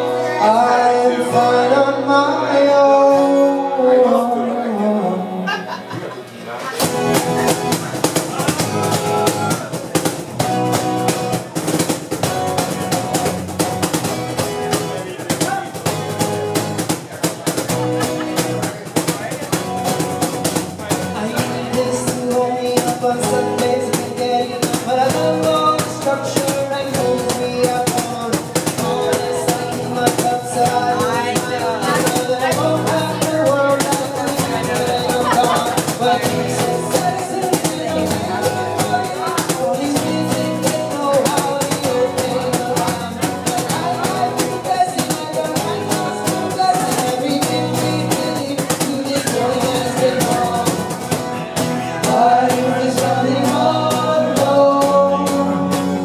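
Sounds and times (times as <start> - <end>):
voices singing: 0.0 - 10.2, 20.2 - 56.0
acoustic guitars strumming: 0.0 - 56.0.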